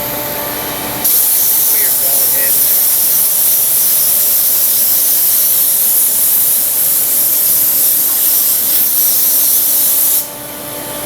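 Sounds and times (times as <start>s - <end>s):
router milling hiss: 0.0s - 10.5s.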